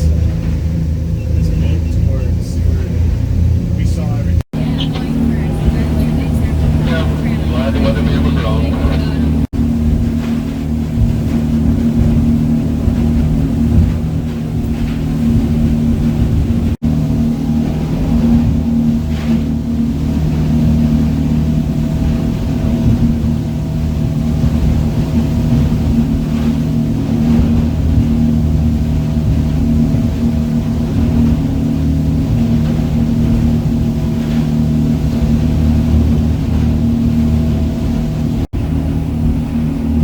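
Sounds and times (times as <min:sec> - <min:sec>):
boat engine drone: 0:00.0 - 0:40.0.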